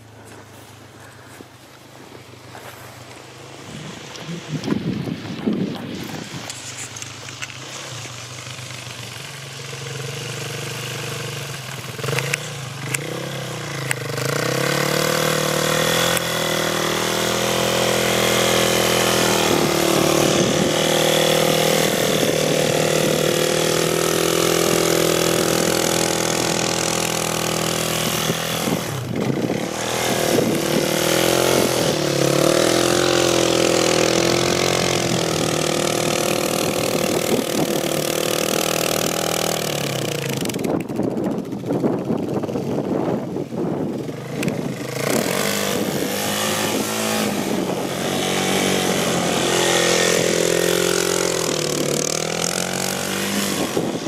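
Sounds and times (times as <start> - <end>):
quad bike engine revving: 3.3 - 54.0.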